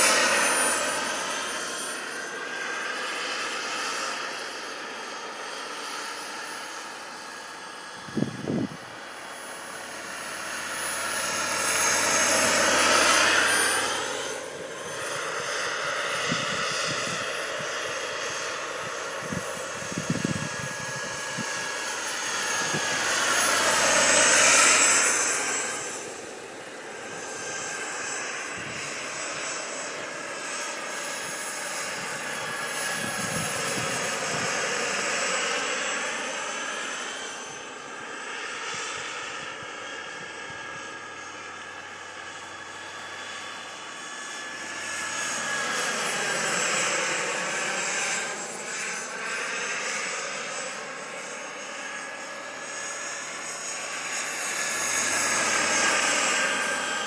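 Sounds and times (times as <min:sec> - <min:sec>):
model helicopter engine and rotors whining: 0:00.0 - 0:57.0.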